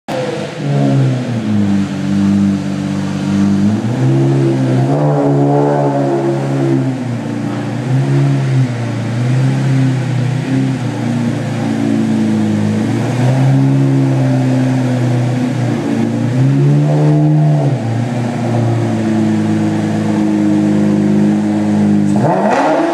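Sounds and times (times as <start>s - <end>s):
car engine revving: 0.1s - 22.9s.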